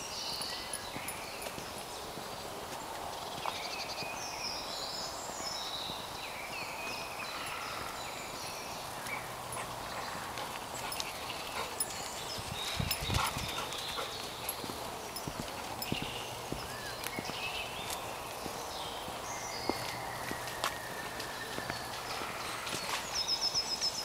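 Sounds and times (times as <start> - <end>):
birds singing: 0.0 - 24.0
footsteps on muddy path: 0.2 - 24.0.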